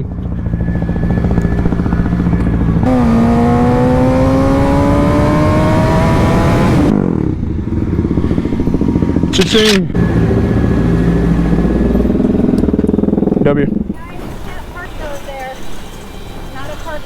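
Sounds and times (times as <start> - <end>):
motorcycle engine accelerating: 0.0 - 14.2.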